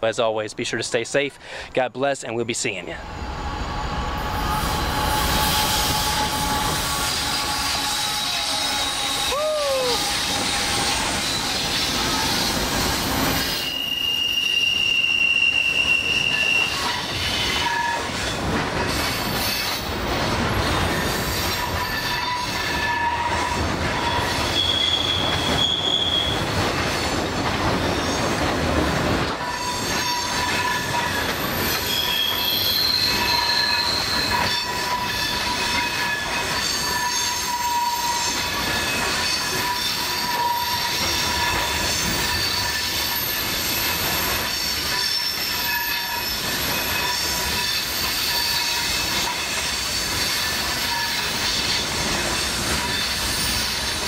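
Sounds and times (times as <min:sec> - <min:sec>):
train cars rumbling and clattering: 0:02.8 - 0:54.0
train wheel flanges squealing: 0:03.1 - 0:28.5, 0:29.2 - 0:54.0.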